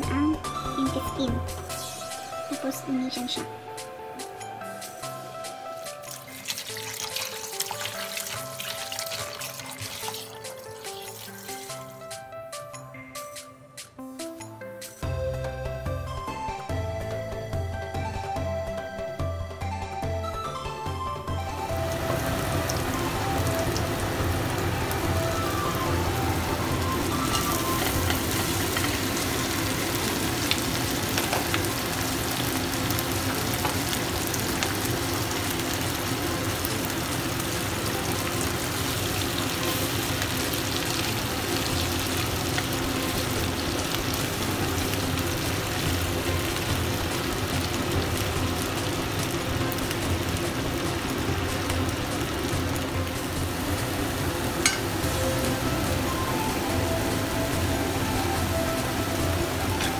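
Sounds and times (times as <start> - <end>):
shrimp sizzling in hot oil: 0.0 - 3.4, 4.7 - 12.3, 21.5 - 59.9.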